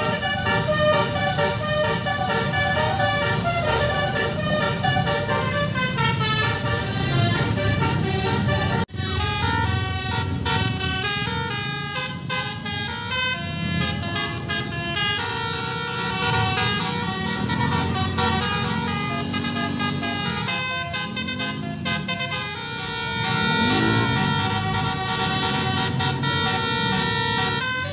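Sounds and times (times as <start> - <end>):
bus engine running: 0.0 - 27.9
musical air horn playing a tune: 0.0 - 27.9.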